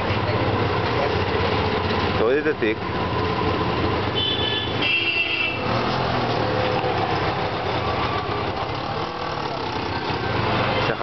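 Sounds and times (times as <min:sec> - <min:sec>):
auto-rickshaw engine running: 0:00.0 - 0:11.0
road noise: 0:00.0 - 0:11.0.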